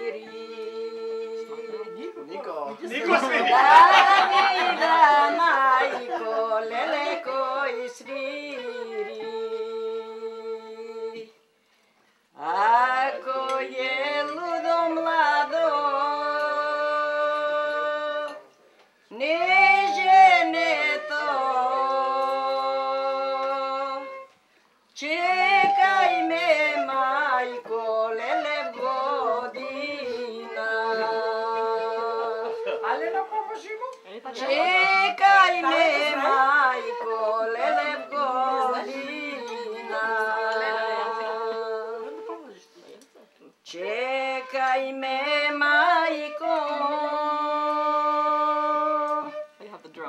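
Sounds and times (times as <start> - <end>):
wooden flute: 0.0 - 2.6, 3.6 - 11.5, 12.4 - 50.0
woman singing folk song: 0.0 - 11.4, 12.4 - 18.5, 19.1 - 50.0.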